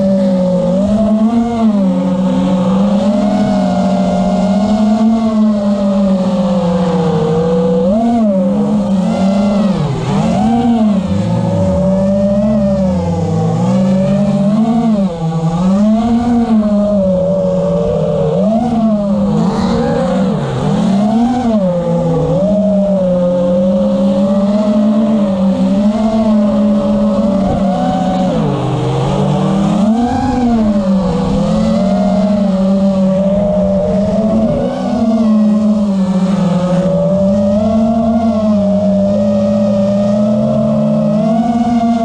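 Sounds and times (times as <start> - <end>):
drone motors buzzing: 0.0 - 42.0.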